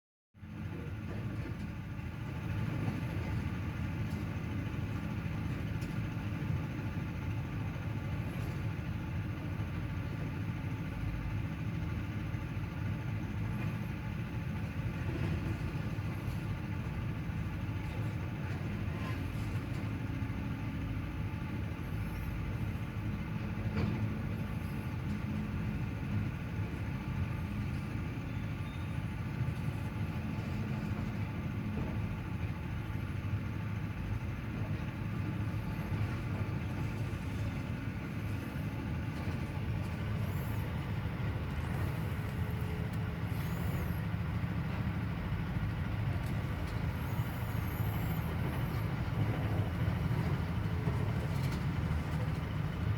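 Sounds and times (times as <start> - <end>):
construction machinery rumbling: 0.4 - 52.9.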